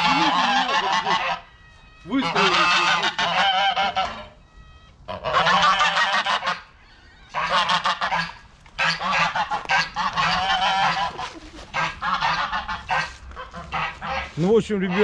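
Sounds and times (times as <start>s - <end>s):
geese honking and cackling: 0.0s - 15.0s.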